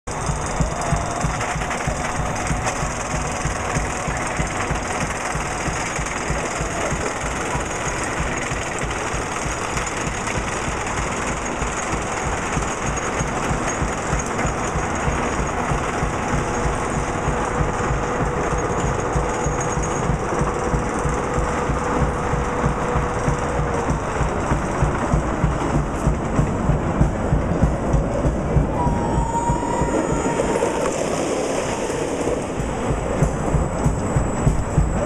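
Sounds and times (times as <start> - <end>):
roller coaster clattering: 0.0 - 35.0.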